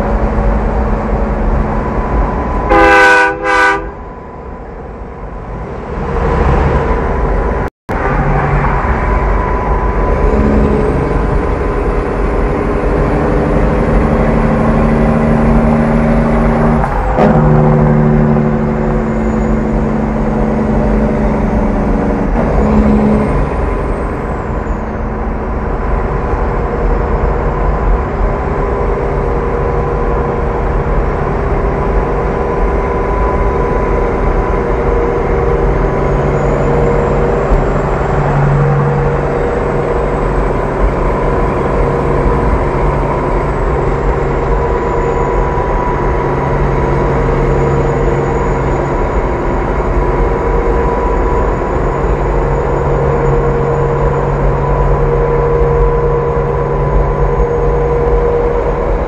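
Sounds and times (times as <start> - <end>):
car engine drone: 0.0 - 59.0
tyre and road rumble: 3.9 - 59.0.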